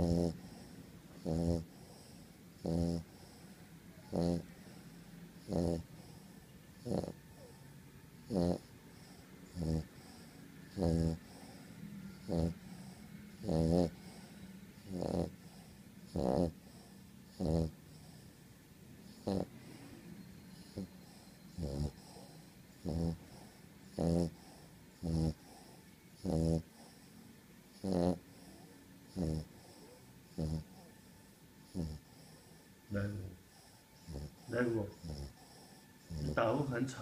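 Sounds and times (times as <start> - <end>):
dog snoring: 0.0 - 37.0.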